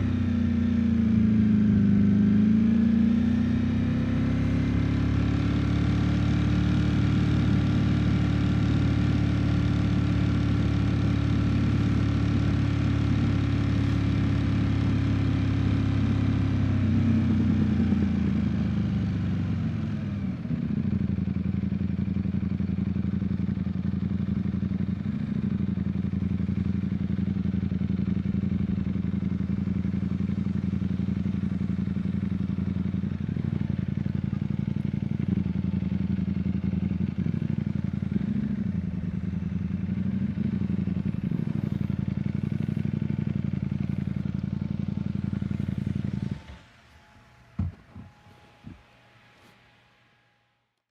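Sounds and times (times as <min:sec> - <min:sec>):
motorcycle engine running: 0:00.0 - 0:48.8.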